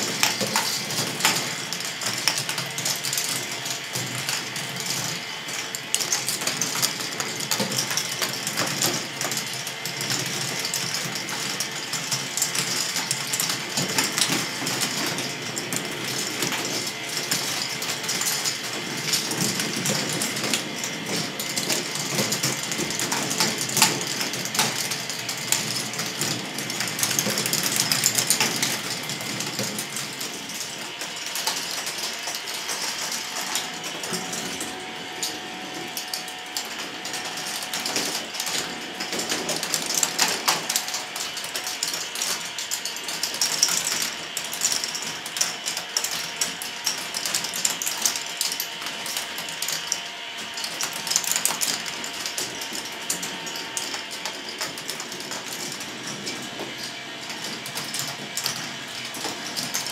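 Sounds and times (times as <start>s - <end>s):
plastic balls clattering on tracks: 0.0s - 59.9s
rattle of motor-driven lifts: 0.0s - 59.9s.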